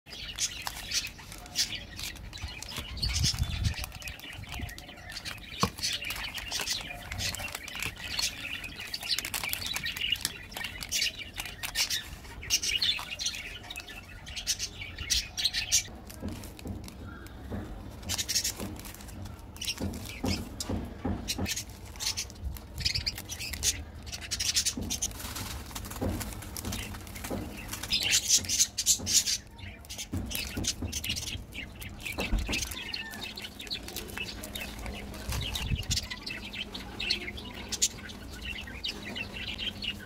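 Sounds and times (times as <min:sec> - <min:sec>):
wrappers crinkling: 0:00.1 - 0:20.8, 0:21.4 - 0:40.0.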